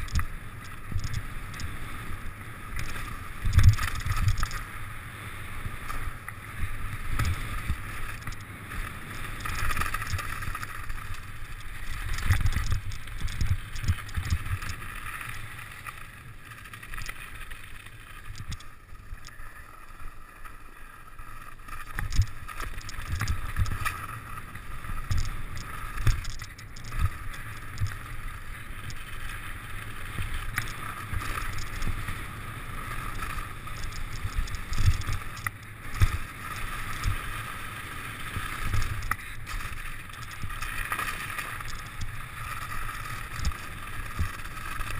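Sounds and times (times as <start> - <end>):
bike tyre rumble: 0.0 - 44.9.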